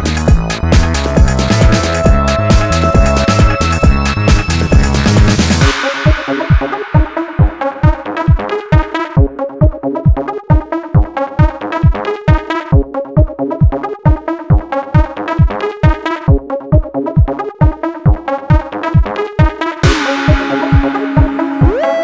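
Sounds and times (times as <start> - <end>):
kick drum: 0.0 - 22.0
synthesizer chords: 0.0 - 22.0.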